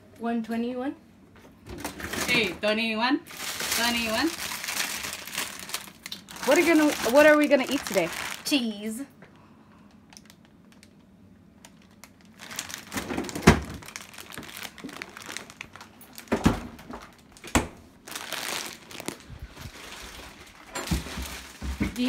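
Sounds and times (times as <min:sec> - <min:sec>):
plastic bag crinkling: 0:01.8 - 0:02.6, 0:03.3 - 0:09.0, 0:09.9 - 0:22.0.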